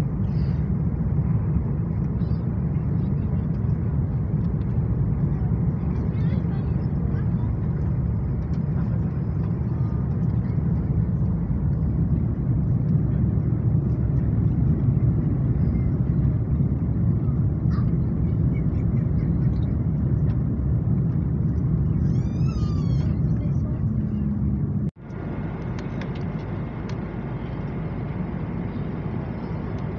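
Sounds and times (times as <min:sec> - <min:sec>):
airplane cabin rumble: 0:00.0 - 0:29.9.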